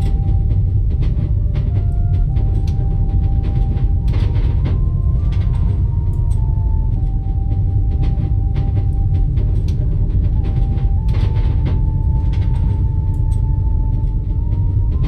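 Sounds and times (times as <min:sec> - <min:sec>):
held musical tone: 0:00.0 - 0:15.0
train carriage rumble: 0:00.0 - 0:15.0.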